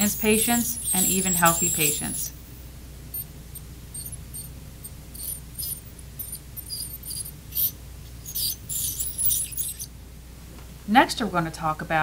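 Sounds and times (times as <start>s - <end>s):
ultrasonic scaler chirping and squeaking: 0.0s - 10.0s.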